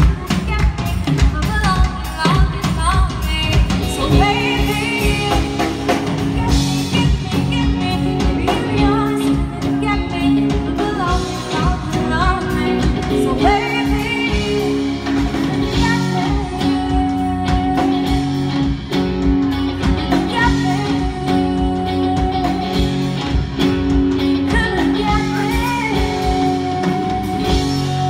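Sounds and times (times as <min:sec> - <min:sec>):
bass guitar: 0:00.0 - 0:28.0
drums: 0:00.0 - 0:28.0
electric guitar: 0:00.0 - 0:28.0
woman singing: 0:00.0 - 0:28.0.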